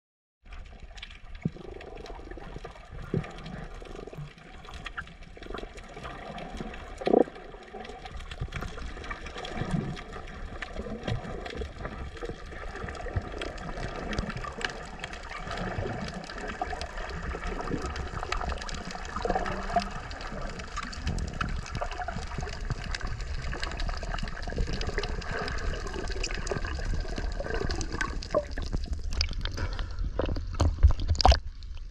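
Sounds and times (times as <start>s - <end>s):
underwater rumble of moving water: 0.4s - 31.9s
clicks and crackles: 0.5s - 31.9s.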